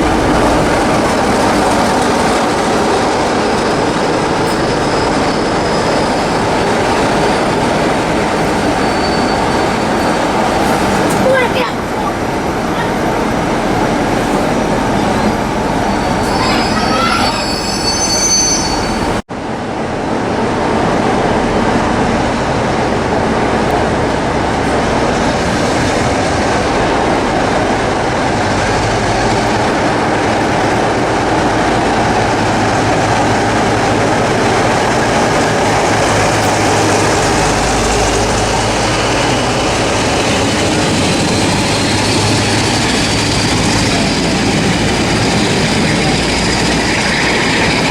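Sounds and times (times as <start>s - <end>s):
train wheels on rails: 0.0s - 47.9s.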